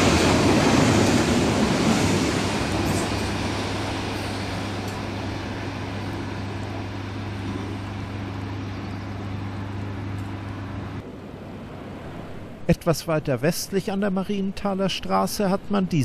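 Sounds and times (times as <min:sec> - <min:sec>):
passing train rumble: 0:00.0 - 0:15.6
steady low hum: 0:00.0 - 0:16.0.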